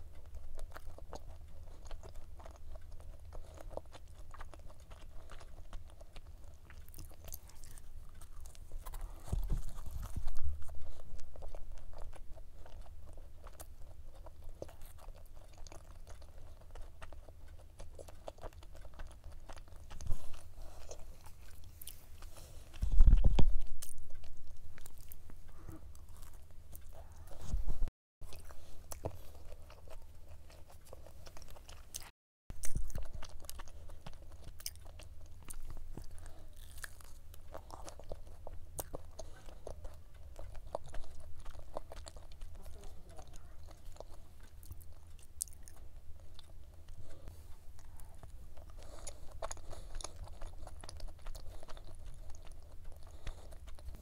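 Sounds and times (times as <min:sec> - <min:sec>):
chewing crisp pastry: 0:00.0 - 0:54.0.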